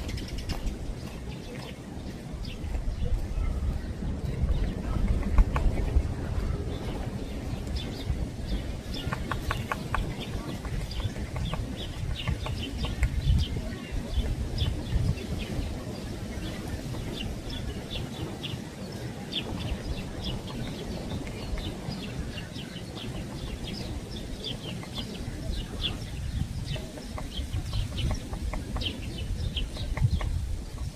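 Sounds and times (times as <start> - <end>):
birds chipping: 0.0 - 30.9
steady low rumble: 0.0 - 30.9.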